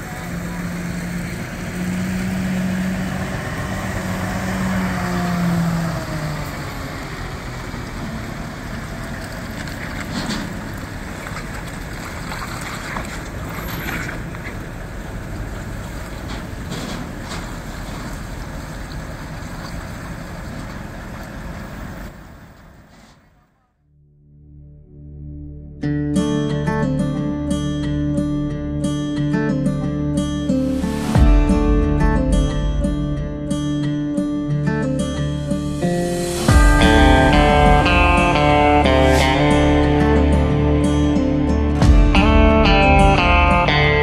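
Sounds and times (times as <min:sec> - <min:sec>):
truck diesel engines running: 0:00.0 - 0:23.1, 0:30.7 - 0:44.0.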